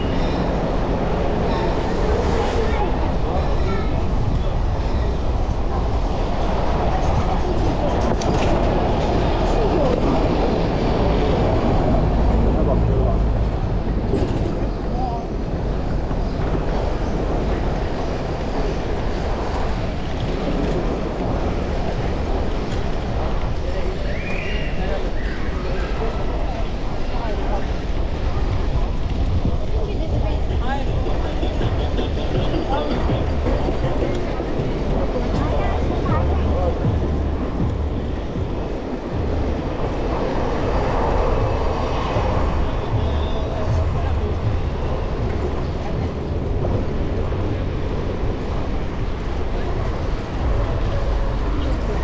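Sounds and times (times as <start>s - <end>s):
broad rushing noise: 0.0s - 52.0s
wind rumble on microphone: 0.0s - 52.0s.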